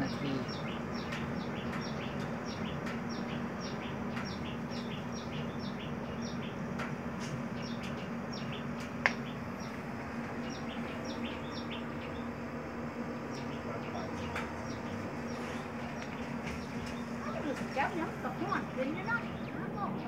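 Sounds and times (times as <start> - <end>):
bird chirping: 0.0 - 6.7, 7.4 - 20.0
stove hum and rush: 0.0 - 20.0.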